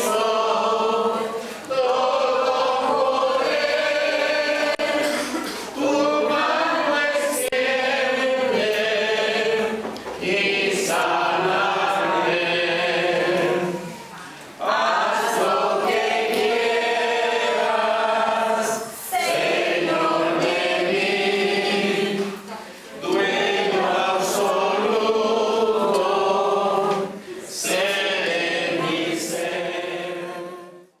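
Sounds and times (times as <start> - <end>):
congregation singing a hymn: 0.0 - 31.0.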